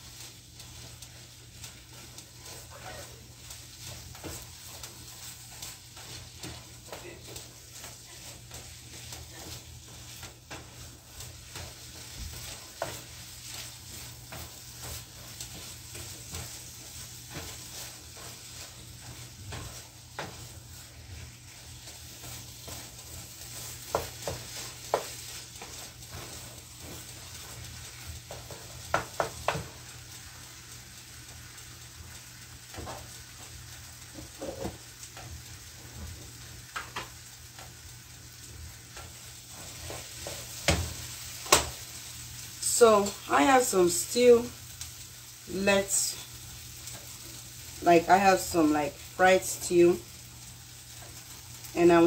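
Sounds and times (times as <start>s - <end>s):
spatula scraping a pan: 0.0s - 30.5s, 31.2s - 52.0s
food sizzling in a frying pan: 0.0s - 52.0s.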